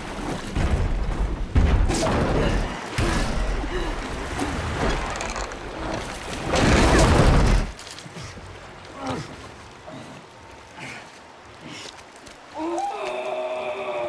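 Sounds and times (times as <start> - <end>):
heavy churning splashes: 0.0 - 14.0.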